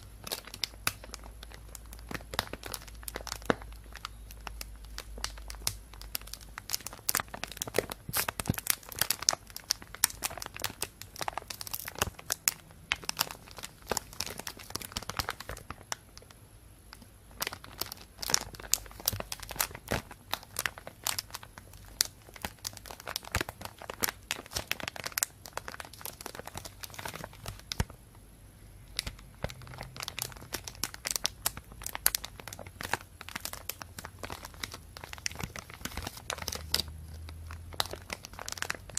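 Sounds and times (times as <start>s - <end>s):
plastic bag crinkling: 0.0s - 28.0s, 28.9s - 38.9s.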